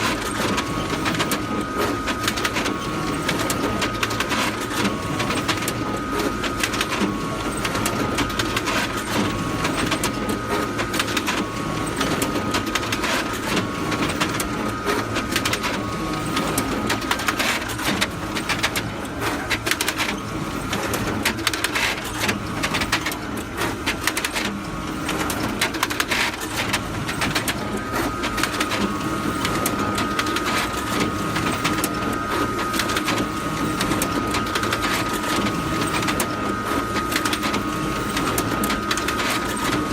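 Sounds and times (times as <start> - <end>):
photocopier churning: 0.0 - 39.9.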